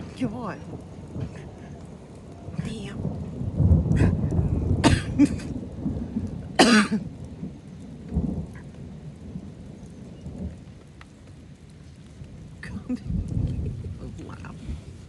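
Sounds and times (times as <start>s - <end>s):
rain falling: 0.0s - 15.0s
thunder rumbling: 0.0s - 15.0s.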